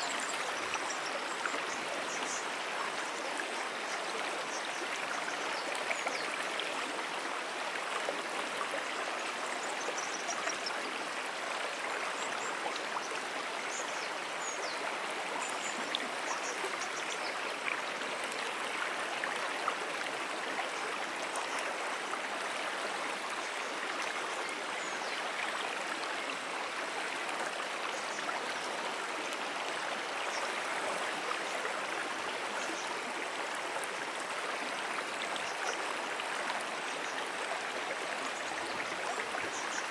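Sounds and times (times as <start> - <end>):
brook water flowing: 0.0 - 39.9.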